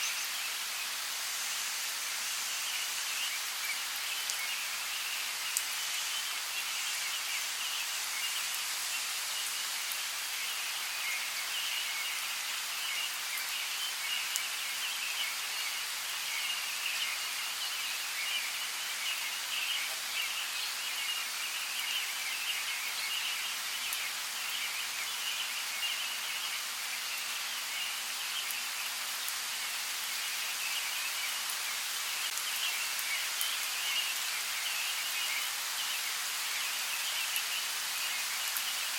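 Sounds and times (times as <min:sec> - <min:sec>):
rain hissing: 0:00.0 - 0:38.9.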